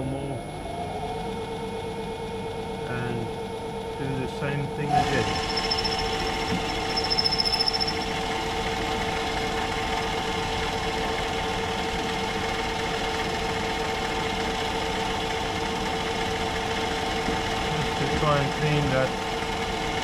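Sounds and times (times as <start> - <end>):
metal lathe running with hum: 0.0 - 20.0.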